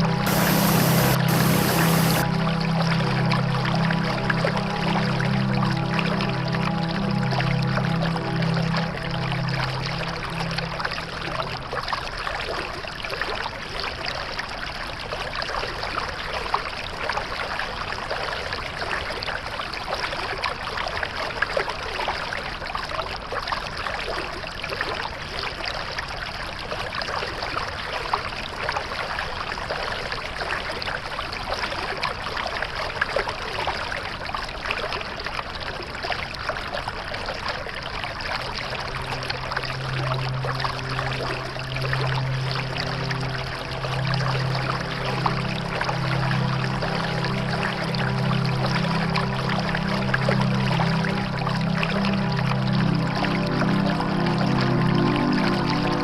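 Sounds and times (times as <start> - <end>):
stream water rushing: 0.0 - 20.0, 30.9 - 56.0.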